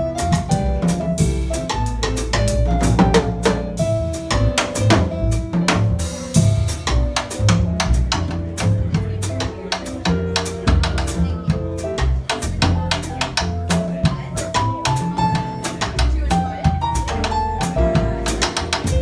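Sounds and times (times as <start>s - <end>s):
drum kit played with sticks: 0.0s - 19.0s
jazz combo playing bossa nova: 0.0s - 19.0s
piano: 0.0s - 19.0s
walking upright bass: 0.0s - 19.0s.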